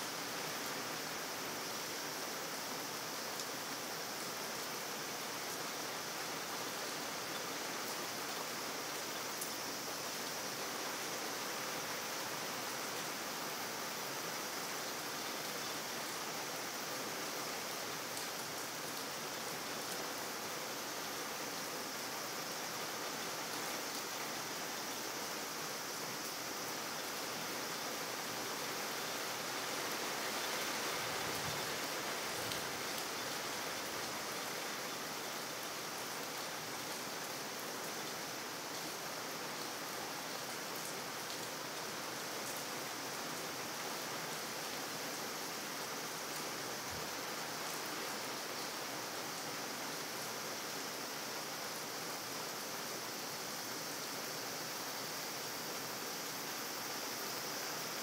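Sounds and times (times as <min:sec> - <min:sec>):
rain on wet pavement: 0:00.1 - 0:53.8.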